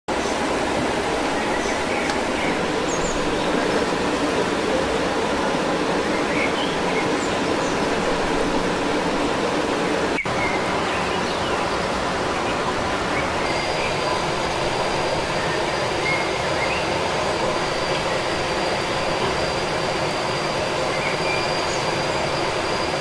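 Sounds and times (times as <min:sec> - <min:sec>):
steady rushing noise: 0:00.1 - 0:23.0.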